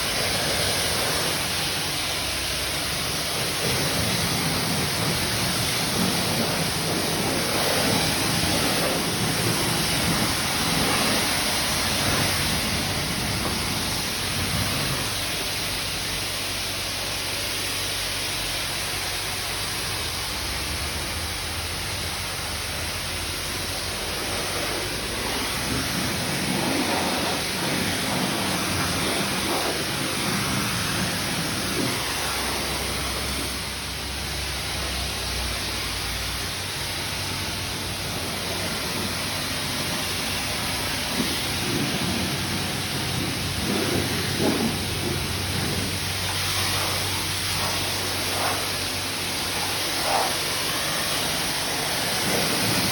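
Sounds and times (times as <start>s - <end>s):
pressure washer spray hissing: 0.0s - 52.9s.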